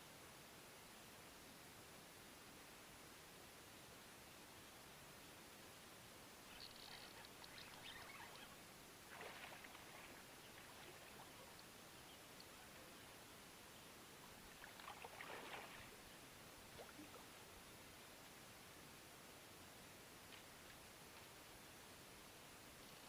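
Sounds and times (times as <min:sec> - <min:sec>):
faint hiss: 0:00.0 - 0:23.0.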